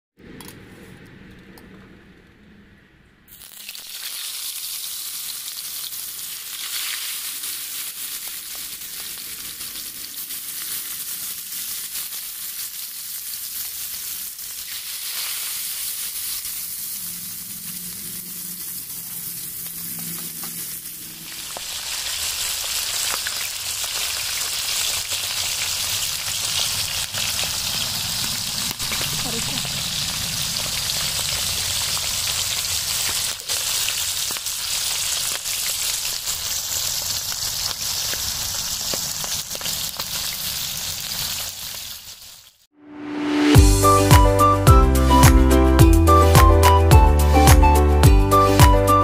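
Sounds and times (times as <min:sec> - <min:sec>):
fish sizzling in hot oil: 0:03.3 - 0:42.7.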